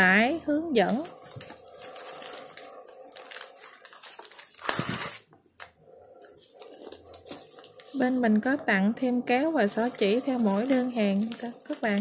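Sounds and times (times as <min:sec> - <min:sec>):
plastic packaging crinkling: 0:00.8 - 0:08.2, 0:09.7 - 0:12.0.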